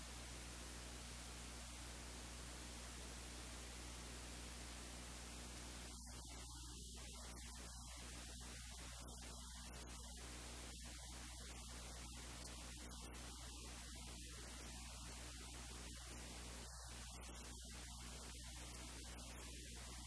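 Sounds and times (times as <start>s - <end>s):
constant hiss: 0.0s - 20.0s
electrical mains hum: 0.0s - 20.0s.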